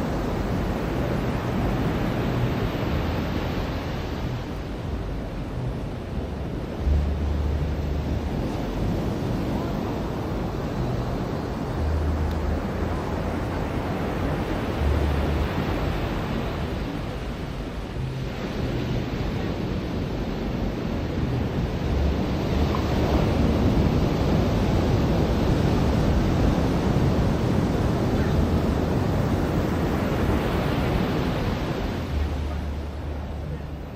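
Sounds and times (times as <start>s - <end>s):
ocean surf washing onto beach: 0.0s - 33.9s
wind rumbling on microphone: 0.0s - 33.9s.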